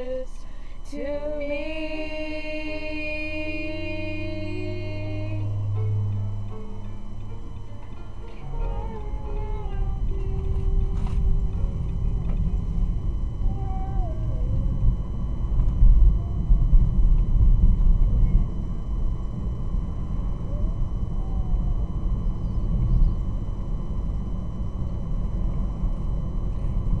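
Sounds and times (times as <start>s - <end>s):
road and engine rumble in car: 0.0s - 27.0s.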